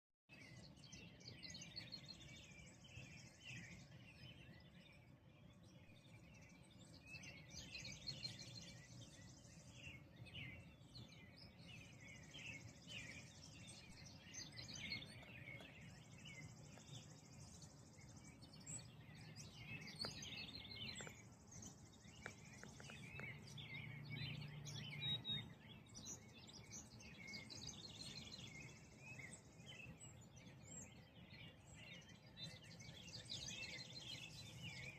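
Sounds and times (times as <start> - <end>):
small birds chirping: 0.3 - 34.9.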